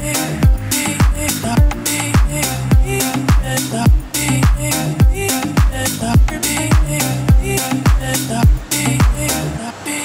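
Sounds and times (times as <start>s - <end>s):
deep kick drum: 0.0s - 9.2s
electronic dance music: 0.0s - 10.0s
road traffic hiss: 0.0s - 10.0s.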